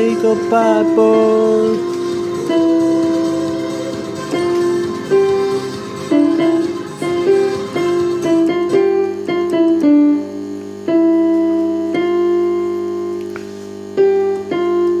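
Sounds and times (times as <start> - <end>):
keyboard music: 0.0 - 15.0.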